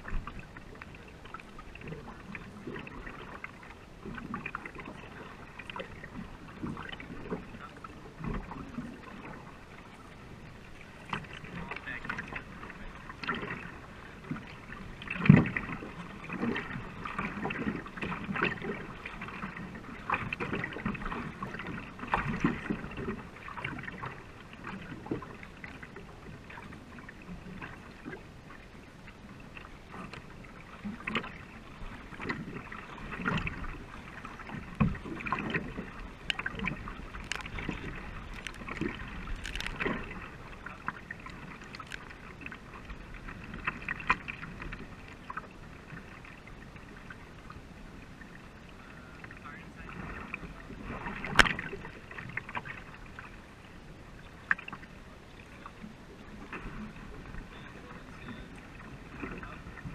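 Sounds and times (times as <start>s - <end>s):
paddle strokes splashing: 0.0s - 59.9s
water washing along hull: 0.0s - 59.9s.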